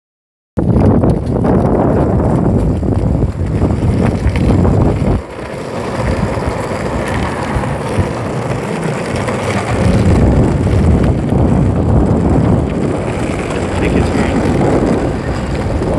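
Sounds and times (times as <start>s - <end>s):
skateboard wheels rolling on concrete: 0.6s - 15.9s
wind buffeting microphone: 0.6s - 15.9s.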